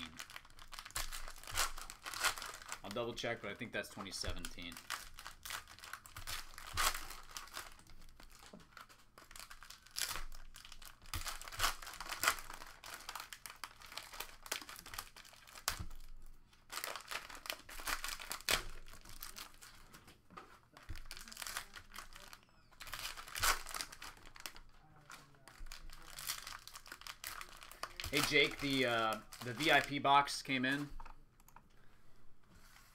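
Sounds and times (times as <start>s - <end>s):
plastic wrappers crinkling: 0.0s - 31.1s.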